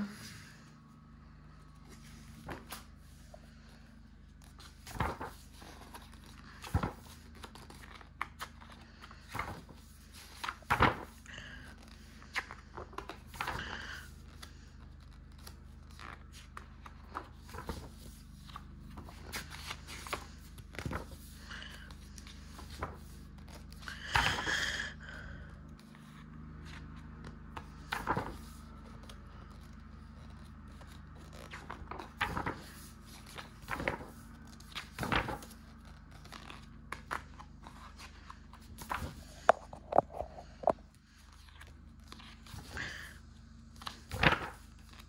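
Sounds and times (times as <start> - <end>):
faint low hum: 0.0 - 45.0
book pages rustling: 0.7 - 24.5, 25.4 - 45.0
page flipped over: 1.8 - 3.7, 4.4 - 14.7, 15.3 - 24.2, 26.7 - 43.0, 43.8 - 45.0.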